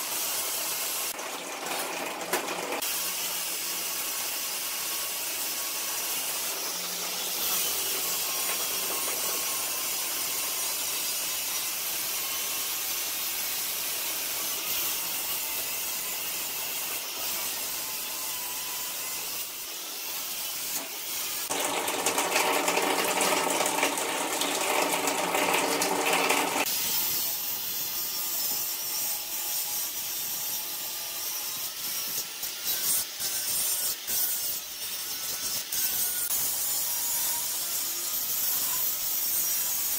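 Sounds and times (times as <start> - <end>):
angle grinder cutting steel: 2.2 - 39.9.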